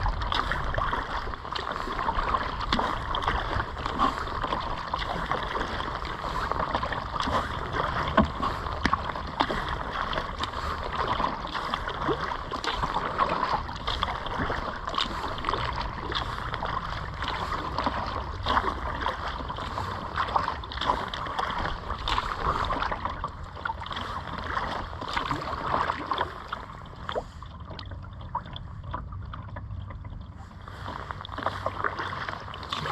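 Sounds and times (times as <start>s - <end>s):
low steady rumble: 0.0s - 32.9s
water splashing around a kayak: 0.0s - 32.9s.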